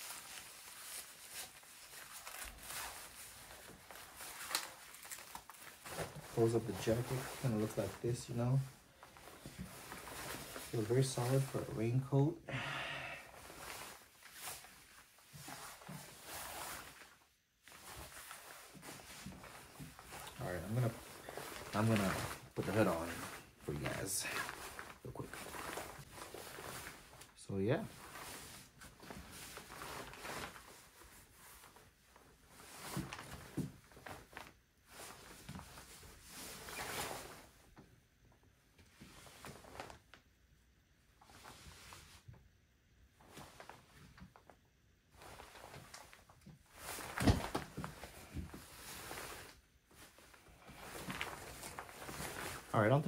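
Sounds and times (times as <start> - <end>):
soft shuffling: 0.0 - 12.2, 13.3 - 37.9, 38.8 - 40.3, 43.1 - 53.0
jacket fabric rustling: 0.0 - 53.0.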